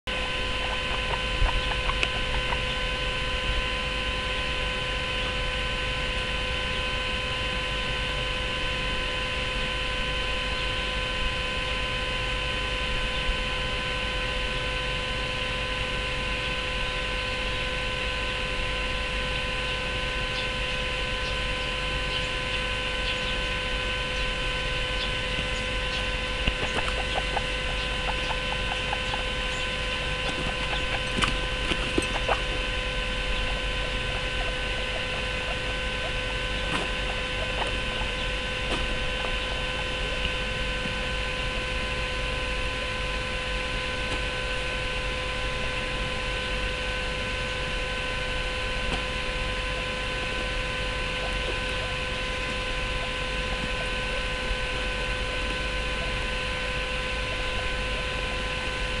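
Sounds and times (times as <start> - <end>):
electrical hum: 0.0 - 59.0.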